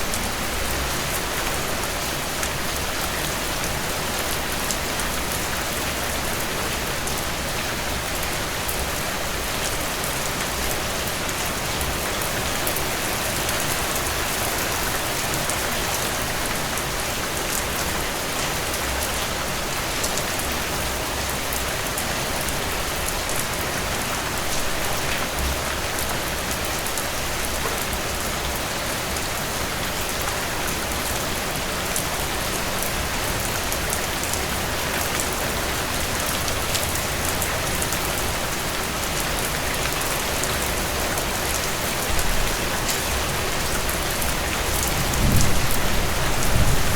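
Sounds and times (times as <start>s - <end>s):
heavy rain on a tin roof: 0.0s - 46.9s.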